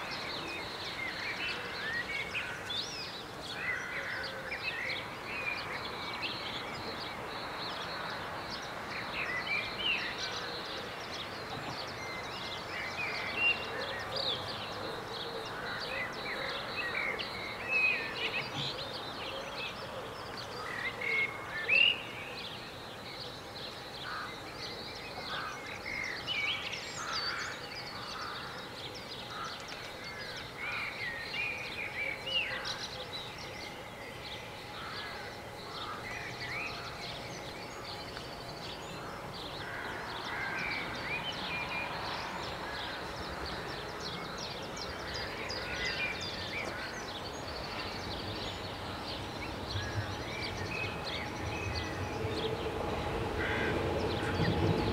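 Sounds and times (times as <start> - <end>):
outdoor background noise: 0.0 - 54.9
songbirds chirping: 0.0 - 54.9.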